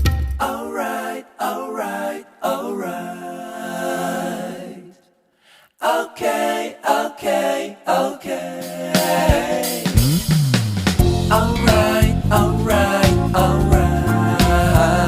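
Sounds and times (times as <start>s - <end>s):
a cappella singing: 0.4s - 10.0s, 11.0s - 15.0s.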